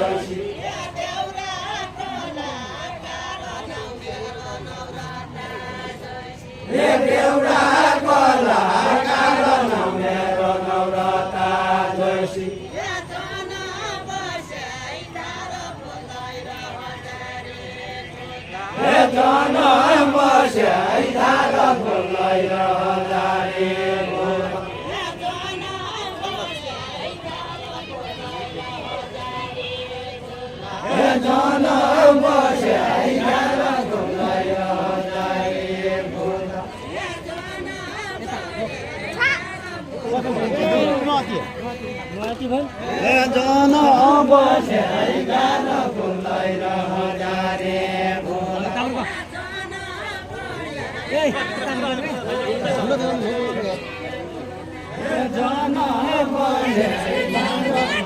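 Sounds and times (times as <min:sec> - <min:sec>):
group singing folk song in unison: 0:00.0 - 0:58.0.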